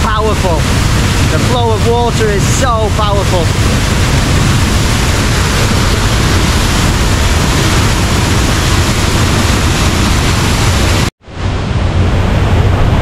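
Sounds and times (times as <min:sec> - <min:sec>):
waterfall rushing and crashing: 0:00.0 - 0:13.0.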